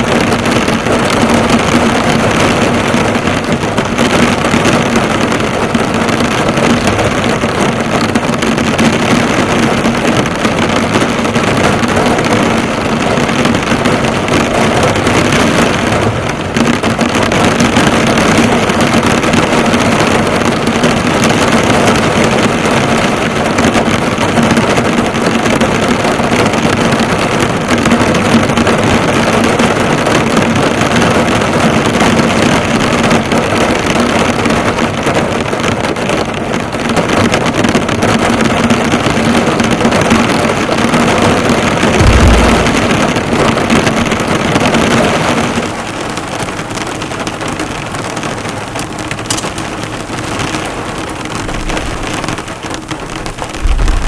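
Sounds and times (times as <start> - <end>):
heavy rain drumming on car: 0.0 - 54.0.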